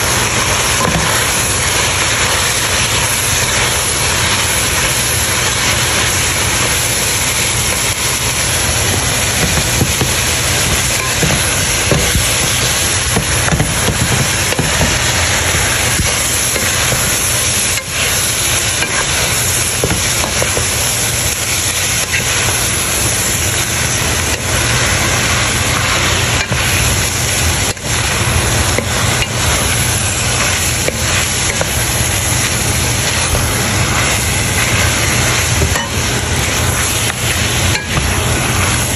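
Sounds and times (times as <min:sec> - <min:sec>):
meat sizzling in a wok: 0:00.0 - 0:38.9.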